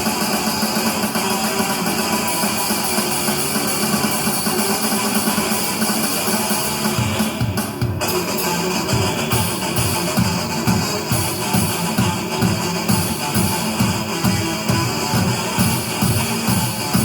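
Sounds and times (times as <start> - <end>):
music with guitar and drums: 0.0 - 17.0.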